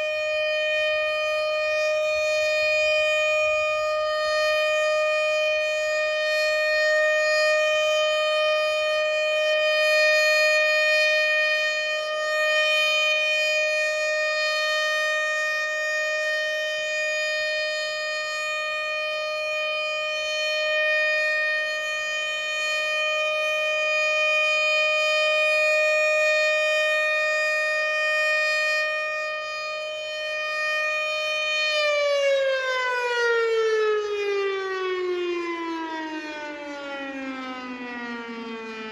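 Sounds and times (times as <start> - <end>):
outdoor warning siren: 0.0 - 38.9.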